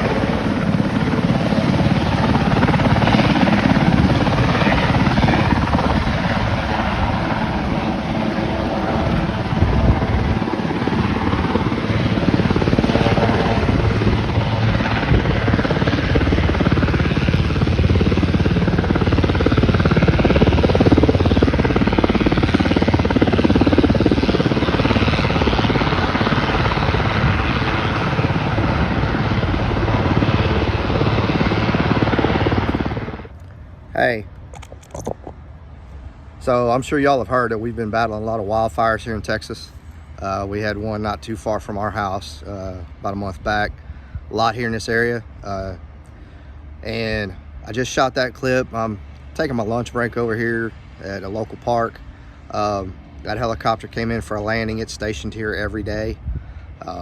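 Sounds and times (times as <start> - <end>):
helicopter rotor beating: 0.0 - 57.0.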